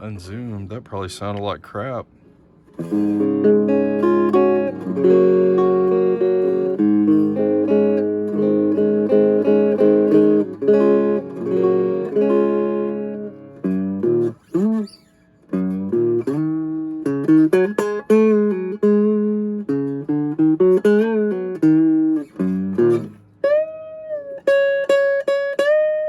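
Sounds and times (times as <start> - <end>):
electric guitar playing: 0.0 - 26.0.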